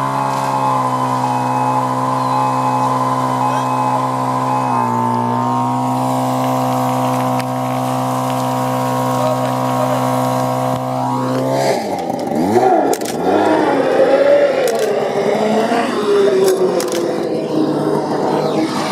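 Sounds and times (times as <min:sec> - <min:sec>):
pump engine running: 0:00.0 - 0:18.9.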